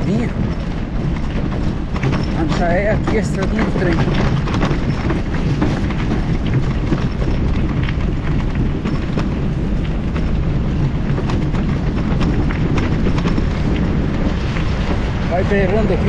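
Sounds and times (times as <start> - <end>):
bike tyres rolling on dirt: 0.0 - 16.0
gravel ticking under tyres: 0.0 - 16.0
wind rumble: 0.0 - 16.0.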